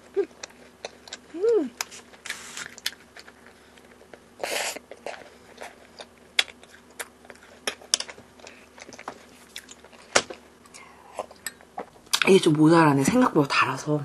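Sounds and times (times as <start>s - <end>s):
soft chewing: 0.0s - 12.3s.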